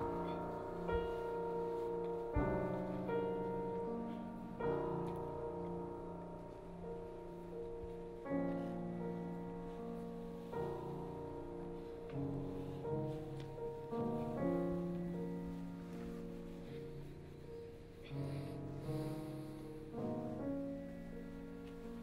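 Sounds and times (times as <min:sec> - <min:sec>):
slow solo piano chords: 0:00.0 - 0:22.0.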